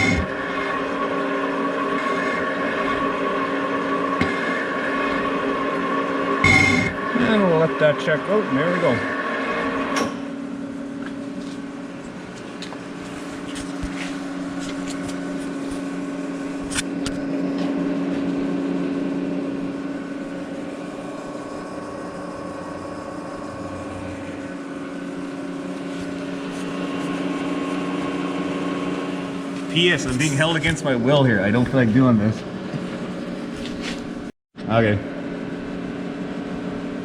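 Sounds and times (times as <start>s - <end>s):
electric motor humming: 0.0s - 34.3s.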